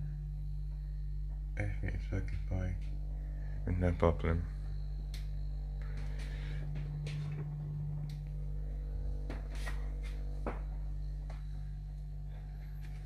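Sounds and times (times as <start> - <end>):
fridge humming: 0.0 - 13.0.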